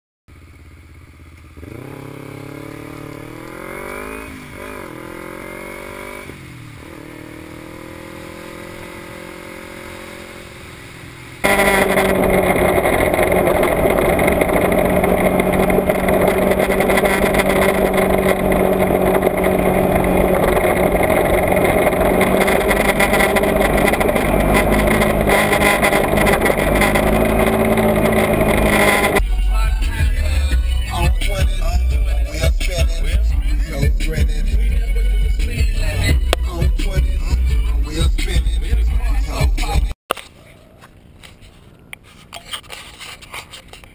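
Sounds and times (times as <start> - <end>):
motorcycle engine accelerating: 0.3 - 38.8.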